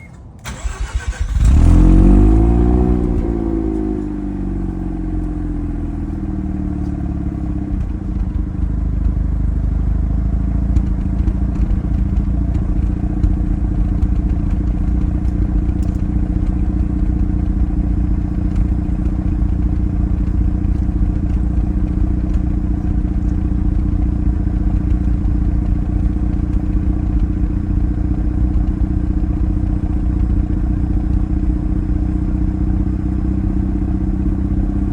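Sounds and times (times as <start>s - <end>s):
rotary engine starting and idling: 0.0s - 34.9s.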